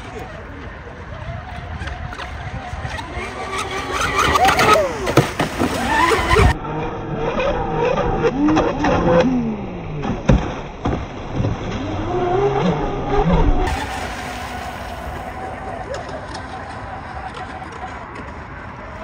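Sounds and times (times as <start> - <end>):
electric motors whining: 0.0 - 10.0, 11.8 - 19.0.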